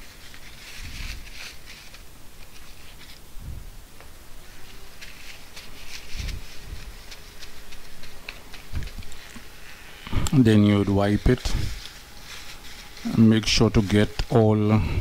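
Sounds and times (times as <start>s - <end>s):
tissue rustling on rubber keypad: 0.0s - 3.6s, 4.4s - 14.4s.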